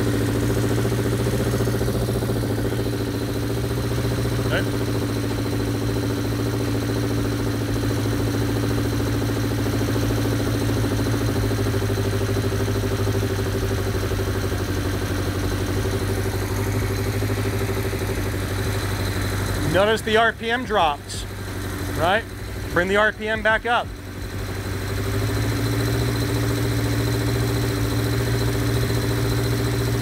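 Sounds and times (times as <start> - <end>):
motorcycle engine fast idle: 0.0 - 30.0.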